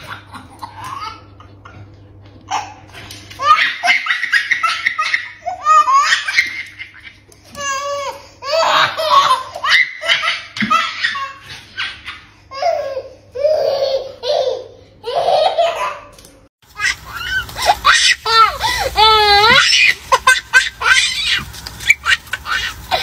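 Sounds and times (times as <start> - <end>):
baby laughing: 0.0 - 1.9, 2.5 - 16.2, 16.8 - 23.0.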